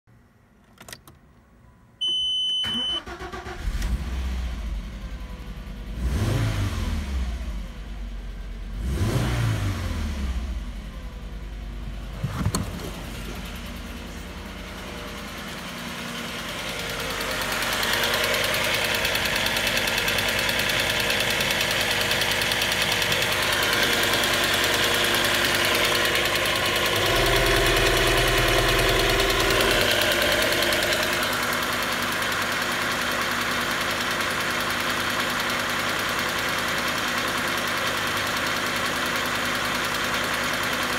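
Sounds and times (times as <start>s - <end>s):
car engine revving and idling: 3.2s - 40.9s.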